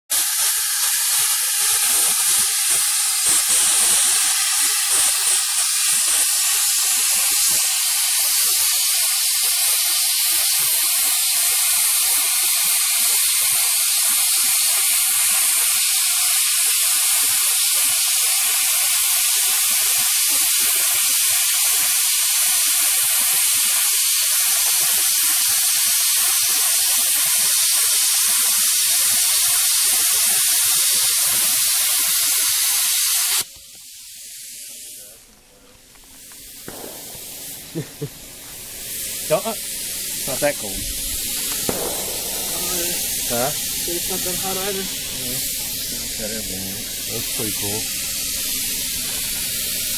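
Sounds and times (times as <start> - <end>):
plasma cutter hissing: 0.1 - 49.9.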